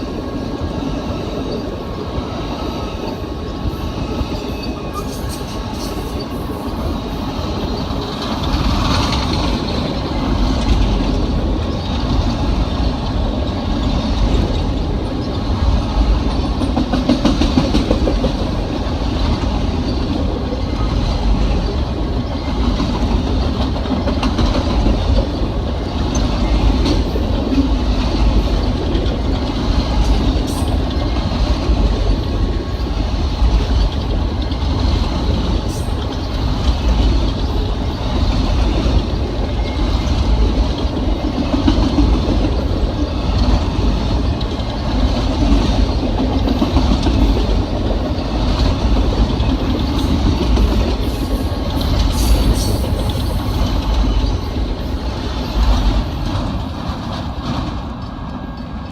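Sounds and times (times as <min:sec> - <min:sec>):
train cars rumbling on track: 0:00.0 - 0:58.9.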